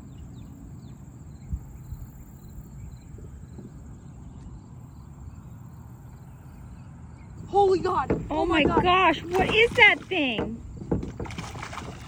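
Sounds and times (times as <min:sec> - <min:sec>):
insects chirping: 0:00.0 - 0:12.0
low rumble of wind: 0:00.0 - 0:12.0.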